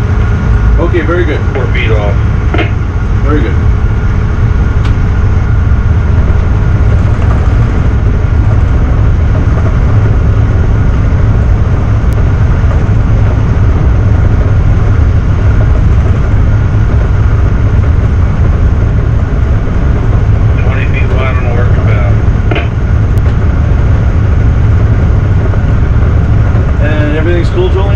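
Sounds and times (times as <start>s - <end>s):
diesel engines droning: 0.0s - 27.9s
propeller churning water: 0.0s - 27.9s.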